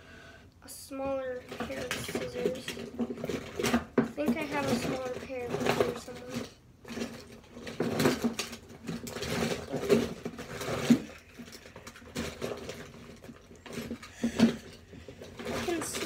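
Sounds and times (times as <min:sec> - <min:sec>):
rummaging through small objects: 0:01.3 - 0:16.0.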